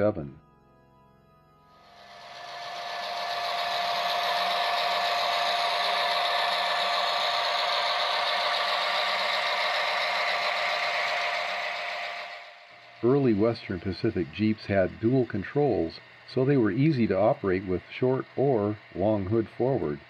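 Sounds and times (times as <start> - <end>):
model trains running on track: 1.8 - 20.0.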